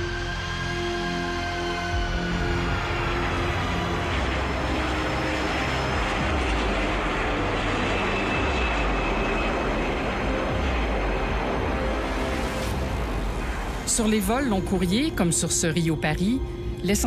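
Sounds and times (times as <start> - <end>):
faint high whine: 0.0 - 17.0
jet engines roaring: 0.0 - 17.0.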